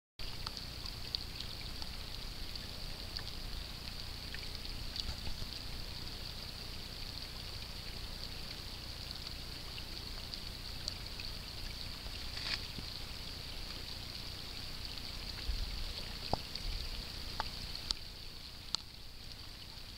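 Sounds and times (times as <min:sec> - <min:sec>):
rain falling on water: 0:00.2 - 0:19.9.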